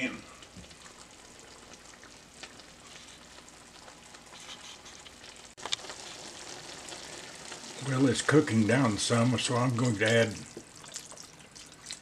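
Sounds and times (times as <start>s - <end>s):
vegetables sizzling in oil: 0.0s - 10.8s.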